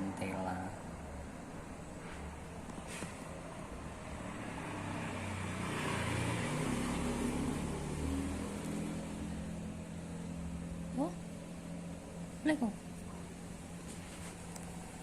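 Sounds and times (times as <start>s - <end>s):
vehicle passing by: 0.0s - 13.1s.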